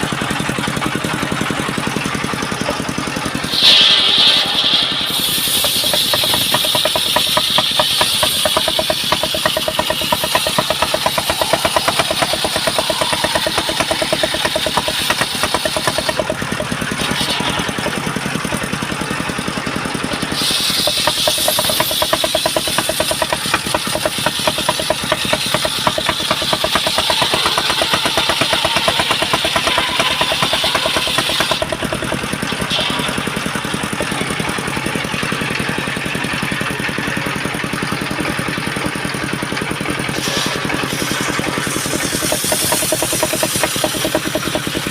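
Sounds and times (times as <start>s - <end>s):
sawmill engine running: 0.0s - 44.9s
saw blade cutting timber: 2.4s - 18.9s, 20.0s - 35.4s, 40.0s - 44.9s.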